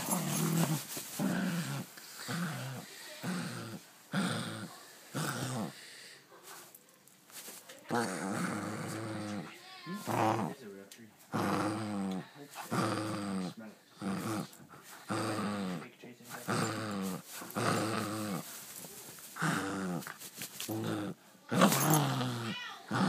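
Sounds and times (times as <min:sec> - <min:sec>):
dog growling and grunting: 0:00.0 - 0:05.8, 0:07.9 - 0:10.7, 0:11.3 - 0:18.6, 0:19.3 - 0:23.0.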